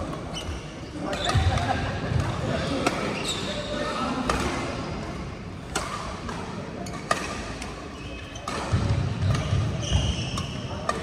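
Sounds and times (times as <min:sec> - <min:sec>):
rackets hitting shuttlecock: 0:00.0 - 0:11.0.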